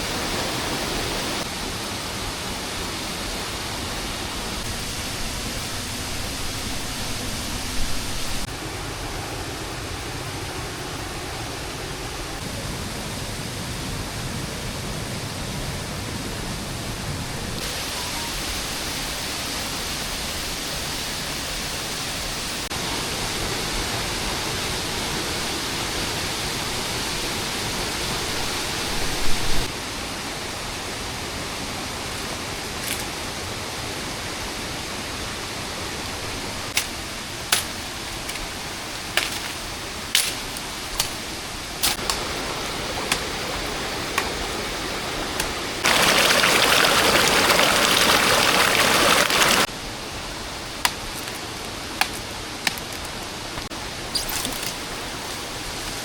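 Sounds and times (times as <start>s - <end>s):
rushing rain or water: 0.0s - 56.0s.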